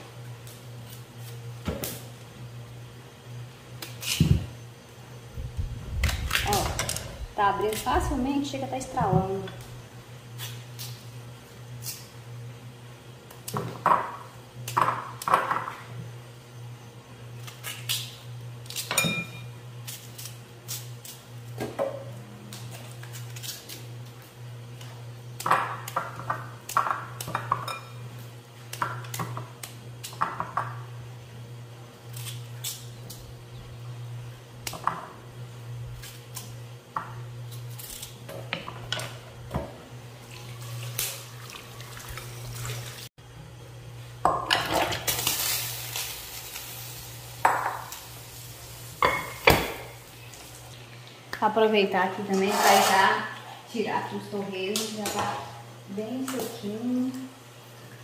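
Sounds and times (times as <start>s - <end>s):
steady low hum: 0.0s - 52.3s.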